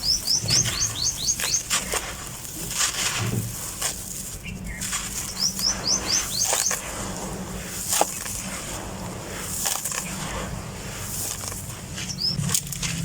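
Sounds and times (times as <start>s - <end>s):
chalk crumbling by hand: 0.0s - 13.0s.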